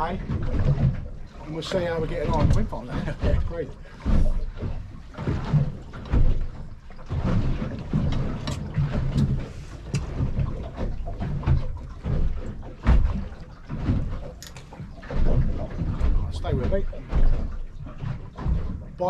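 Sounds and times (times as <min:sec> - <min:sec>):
wind and water rumbling: 0:00.0 - 0:19.0.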